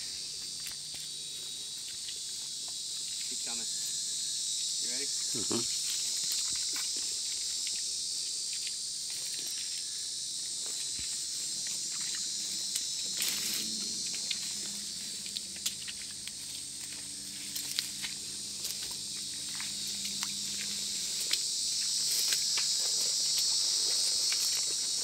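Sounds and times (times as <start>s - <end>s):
footsteps and rustling in brush: 0.0s - 4.0s, 4.6s - 25.0s
insects chorus: 0.0s - 25.0s.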